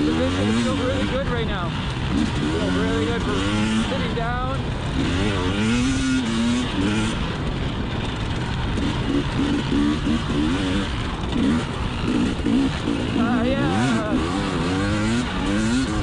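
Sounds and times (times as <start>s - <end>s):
two-stroke dirt bike engine revving: 0.0s - 16.0s.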